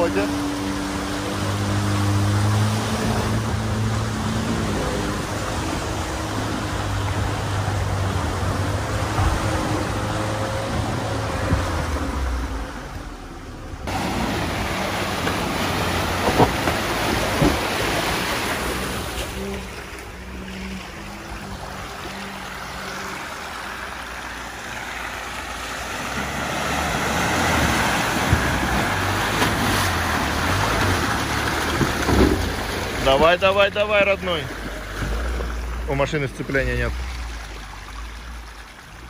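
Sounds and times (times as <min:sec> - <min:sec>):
car engine working: 0:00.0 - 0:39.0
water and mud splashing: 0:00.0 - 0:39.0.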